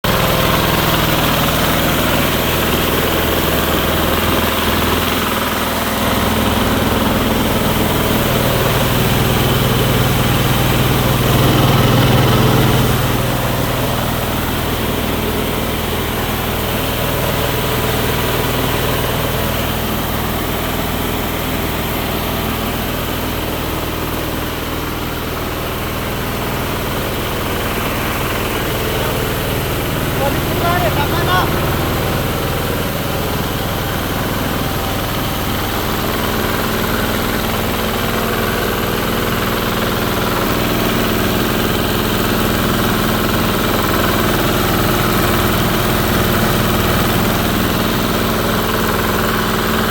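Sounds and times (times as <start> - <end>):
rice milling machine running: 0.0 - 49.9.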